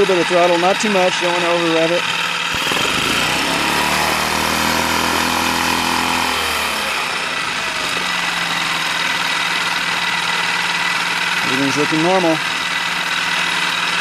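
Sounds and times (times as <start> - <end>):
outboard engine revving and idling: 0.0 - 14.0.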